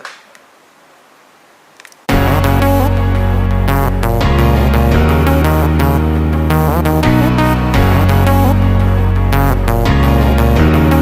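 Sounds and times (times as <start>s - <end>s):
upbeat electronic music: 2.1s - 11.0s.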